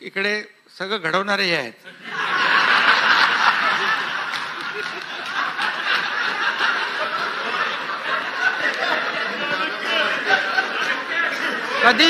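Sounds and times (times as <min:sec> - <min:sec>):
crowd laughing: 0:01.8 - 0:12.0.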